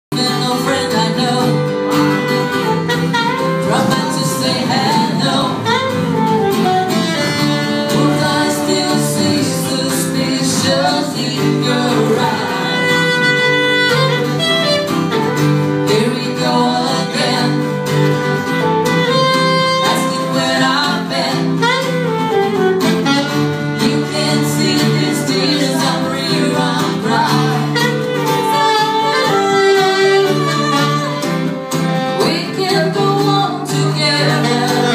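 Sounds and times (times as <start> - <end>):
woman singing into microphone: 0.1 - 14.3, 15.8 - 18.0, 19.1 - 22.2, 23.8 - 31.2, 31.9 - 34.9
saxophone: 0.1 - 34.9
strummed acoustic guitar: 0.1 - 34.9.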